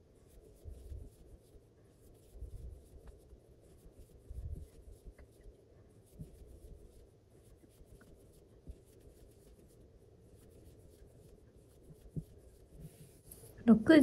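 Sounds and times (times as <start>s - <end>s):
crochet hook rubbing yarn: 0.0s - 13.7s.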